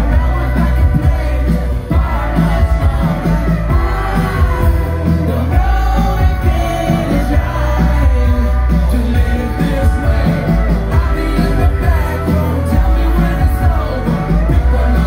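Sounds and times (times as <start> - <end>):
electric guitar: 0.0 - 15.0
heavy bass and drum beat: 0.0 - 15.0
man singing into a microphone: 0.0 - 15.0.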